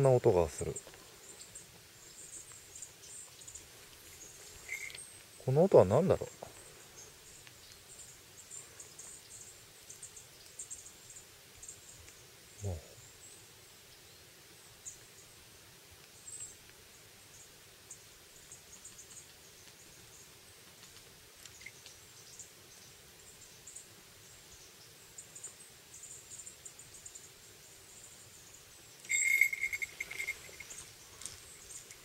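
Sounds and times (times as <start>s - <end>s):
small forest birds chirping: 0.0s - 32.0s.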